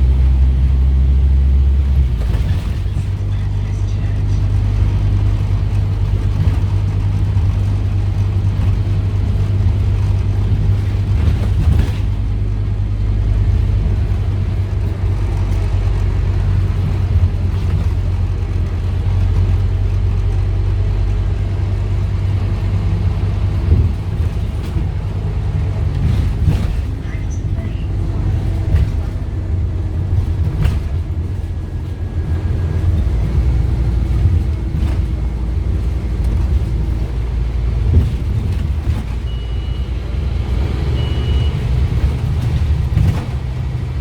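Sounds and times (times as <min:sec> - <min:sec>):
bus diesel engine running: 0:00.0 - 0:44.0.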